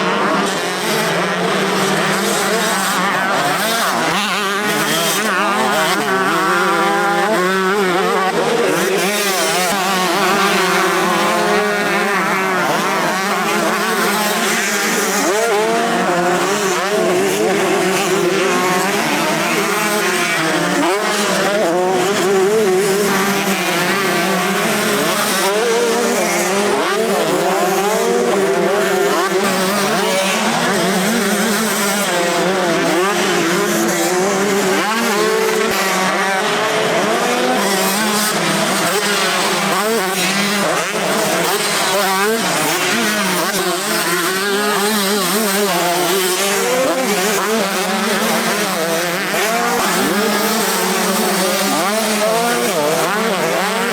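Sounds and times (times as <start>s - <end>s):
motocross bike engines revving: 0.0s - 53.9s.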